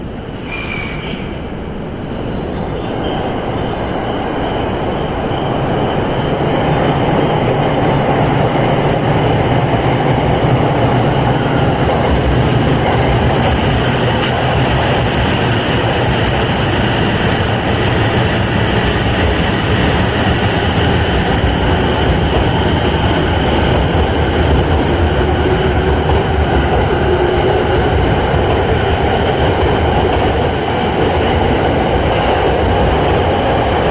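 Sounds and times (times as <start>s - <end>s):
electric train rumbling on rails: 0.0s - 33.9s.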